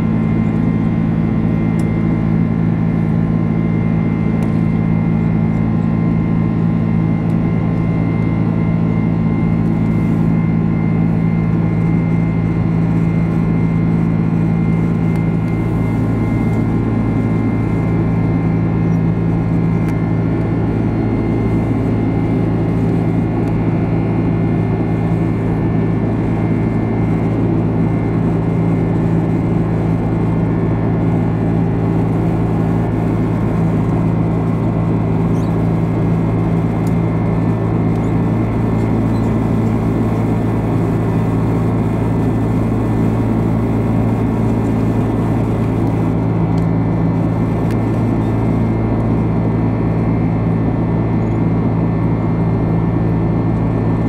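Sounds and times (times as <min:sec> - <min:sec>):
low engine drone: 0:00.0 - 0:54.0
steady humming tones: 0:00.0 - 0:54.0.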